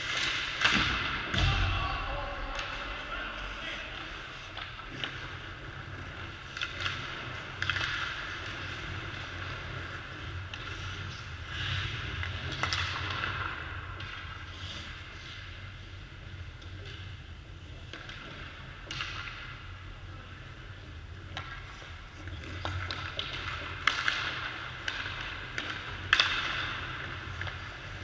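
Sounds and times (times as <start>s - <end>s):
sticks striking pucks: 0.0s - 15.5s, 17.9s - 19.6s, 21.3s - 28.0s
low hum of rink hall: 0.0s - 28.0s.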